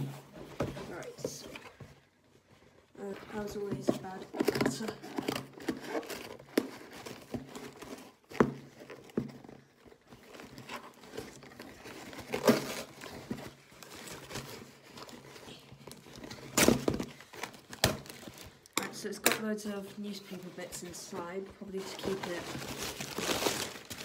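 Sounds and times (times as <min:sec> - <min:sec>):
cardboard rustling: 0:00.0 - 0:18.7, 0:19.8 - 0:24.0.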